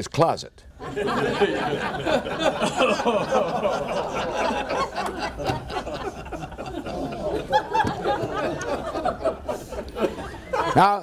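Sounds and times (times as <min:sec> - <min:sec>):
audience laughing: 0:00.8 - 0:11.0.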